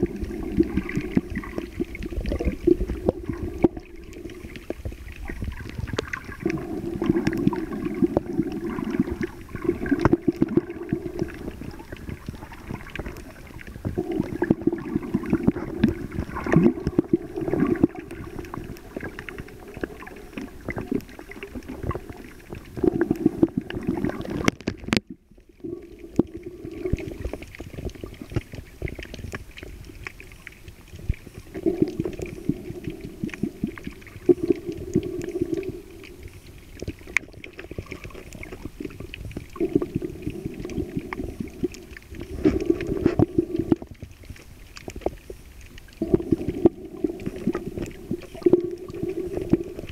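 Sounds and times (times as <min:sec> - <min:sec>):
muffled shallow water: 0:00.0 - 0:49.9.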